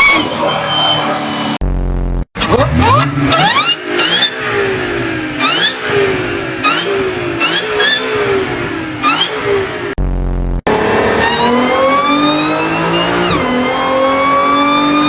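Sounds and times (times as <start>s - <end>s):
car engine revving: 0.0s - 15.0s
supercharger whine: 0.0s - 15.0s.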